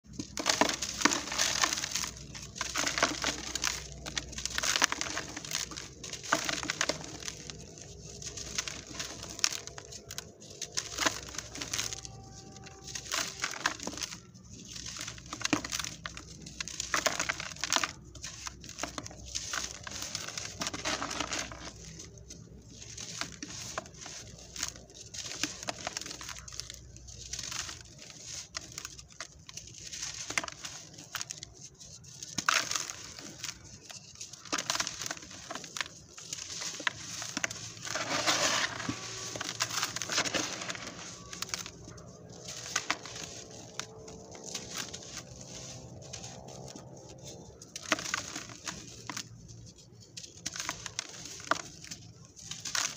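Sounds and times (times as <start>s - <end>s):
dried cement crunching and cracking: 0.0s - 52.9s
powder sifting through fingers: 0.1s - 52.9s.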